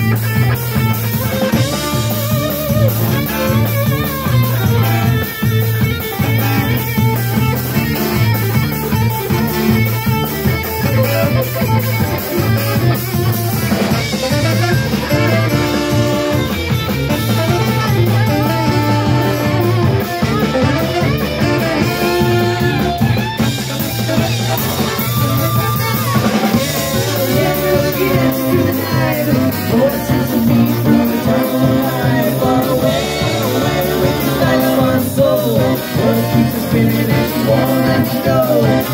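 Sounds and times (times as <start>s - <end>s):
live band playing a groove: 0.0s - 38.9s
saxophone lines: 0.0s - 38.9s.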